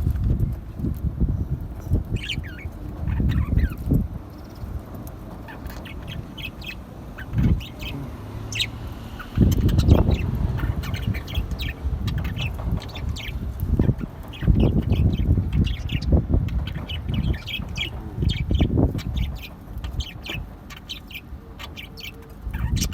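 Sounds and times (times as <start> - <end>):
low rumbling noise: 0.0 - 22.9
parrots chirping: 1.8 - 22.9.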